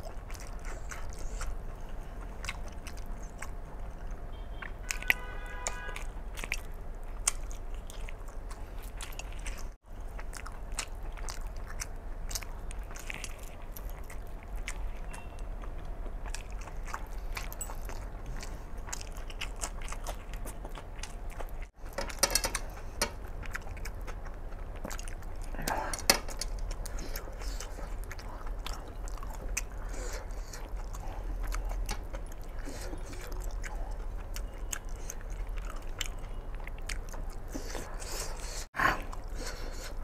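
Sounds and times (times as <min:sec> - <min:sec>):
wet chewing: 0:00.0 - 0:40.0.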